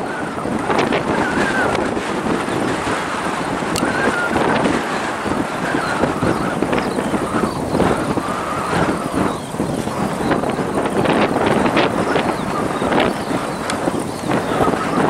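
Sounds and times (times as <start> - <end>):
airliner jet noise: 0.0 - 15.0
wind buffeting microphone: 0.0 - 15.0.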